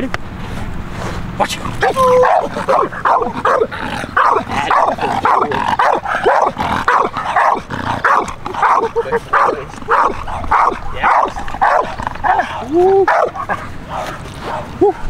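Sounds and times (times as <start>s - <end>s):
dog barking rapidly: 1.7s - 14.7s.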